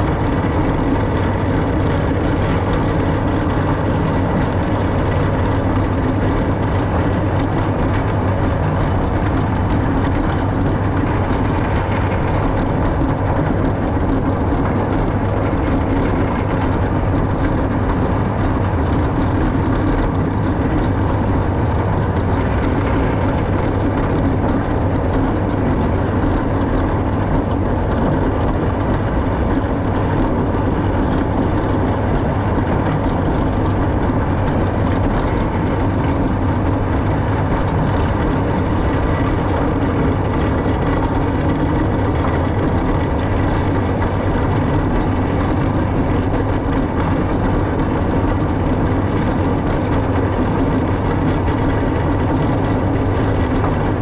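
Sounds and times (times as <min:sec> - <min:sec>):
forage chopper running: 0:00.0 - 0:54.0
tractor engine: 0:00.0 - 0:54.0.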